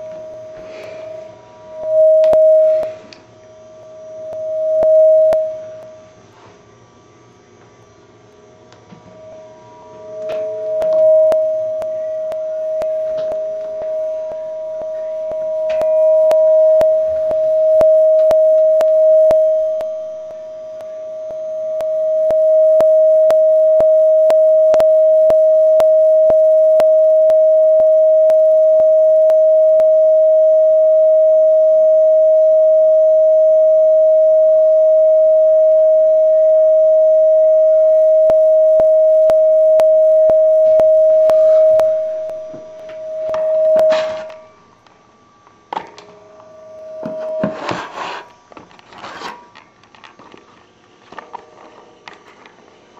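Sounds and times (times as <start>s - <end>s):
audio feedback howl: 0.0s - 52.9s.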